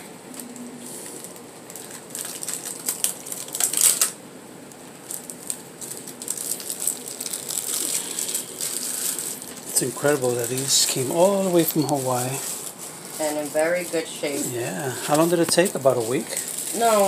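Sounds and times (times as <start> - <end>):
plastic sleeve crinkling: 0.3 - 17.0.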